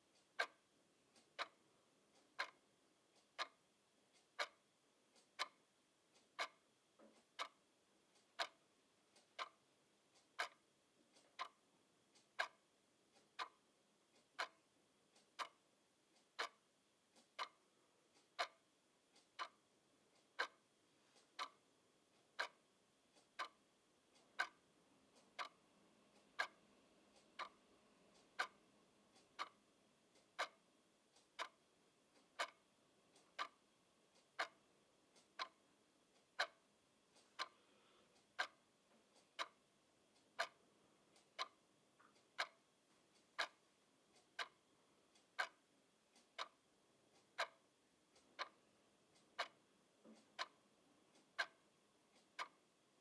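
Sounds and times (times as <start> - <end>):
clock ticking: 0.0 - 53.0.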